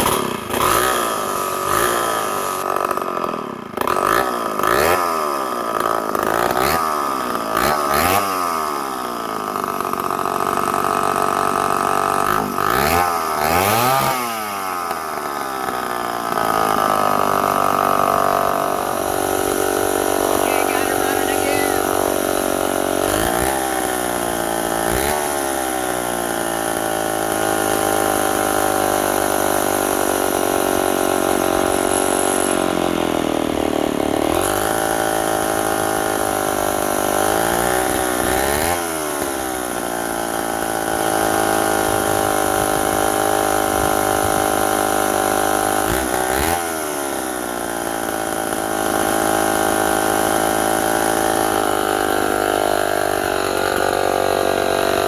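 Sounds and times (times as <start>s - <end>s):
chainsaw engine running: 0.0s - 55.0s.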